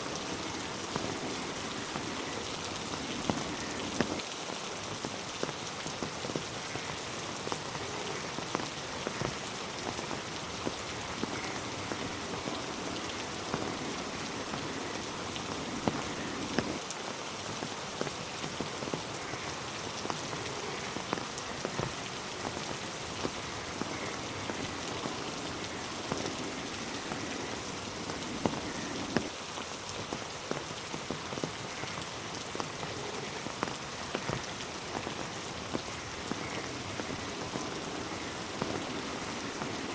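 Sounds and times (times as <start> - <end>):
raindrops ticking on surfaces: 0.0 - 39.9
steady rain hiss: 0.0 - 39.9.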